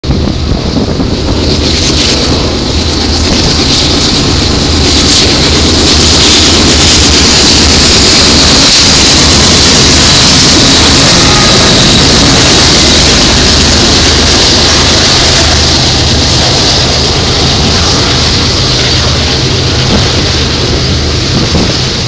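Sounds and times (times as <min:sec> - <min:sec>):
diesel locomotives passing: 0:00.0 - 0:22.0.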